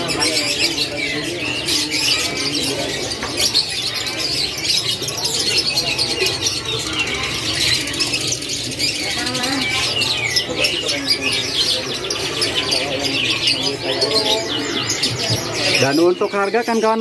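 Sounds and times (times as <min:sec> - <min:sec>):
canaries singing: 0:00.0 - 0:17.0.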